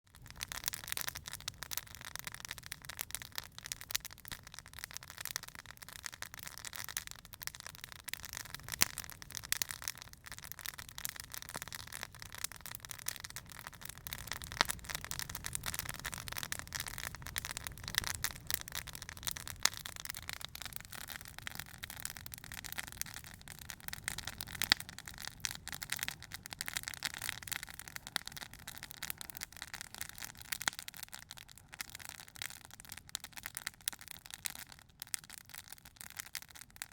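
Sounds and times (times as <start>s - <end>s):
wood crackling and popping: 0.0s - 36.9s.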